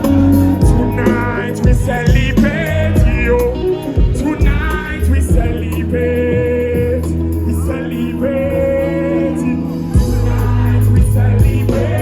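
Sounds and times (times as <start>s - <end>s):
heavy bass line: 0.0s - 12.0s
loud live concert music: 0.0s - 12.0s.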